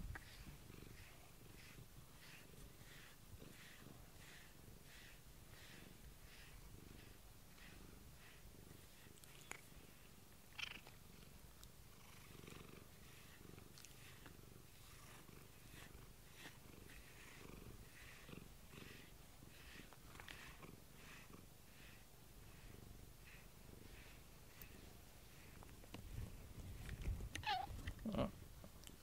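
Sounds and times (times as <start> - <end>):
cat purring: 0.0 - 28.4.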